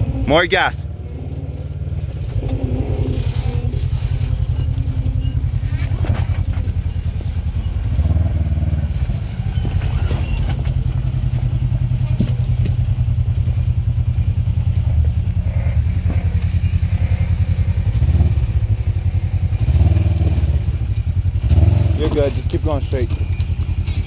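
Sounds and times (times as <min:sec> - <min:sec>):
off-road vehicle engine throbbing: 0:00.0 - 0:24.0.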